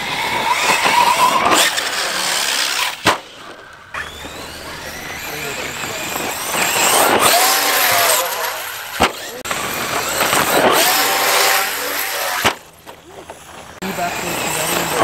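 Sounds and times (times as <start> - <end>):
rc truck motor whining: 0.0 - 15.0
tyres on loose dirt: 0.0 - 15.0.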